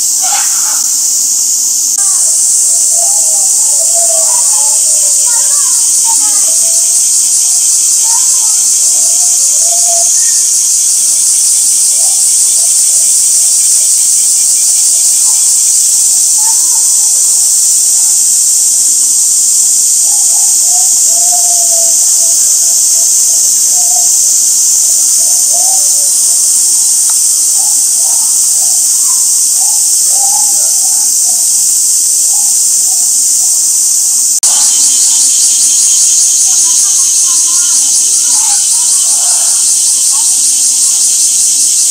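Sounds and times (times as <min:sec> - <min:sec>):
cicadas chorus: 0:00.0 - 0:41.9
faint voices: 0:00.0 - 0:41.9.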